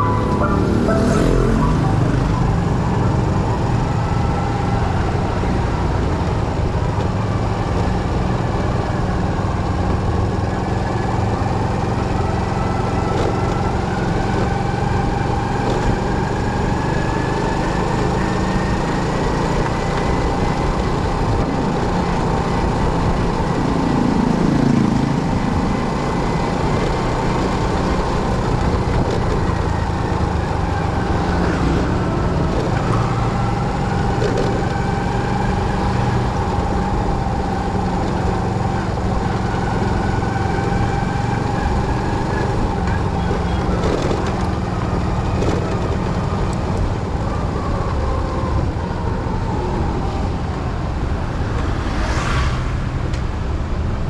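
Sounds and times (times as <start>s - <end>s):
motorcycle engine running: 0.0s - 47.7s.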